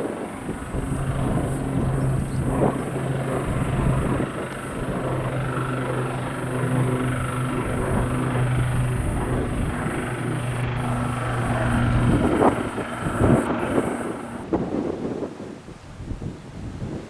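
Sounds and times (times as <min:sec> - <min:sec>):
aircraft engines droning: 0:00.0 - 0:17.0
wind rumble on microphone: 0:00.0 - 0:17.0.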